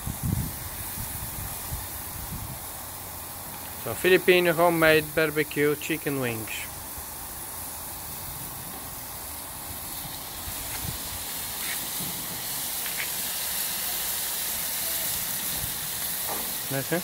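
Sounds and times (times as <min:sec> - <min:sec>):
chicken wings sizzling on grill: 0:00.0 - 0:17.0.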